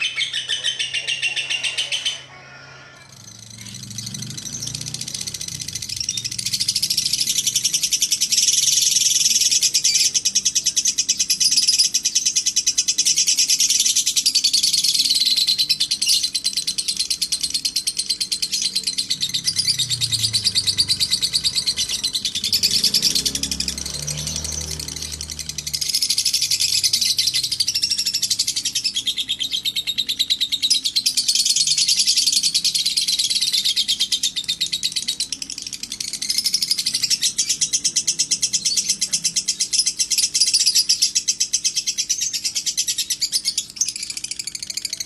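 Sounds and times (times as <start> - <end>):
lovebird chattering: 0.0 - 45.0.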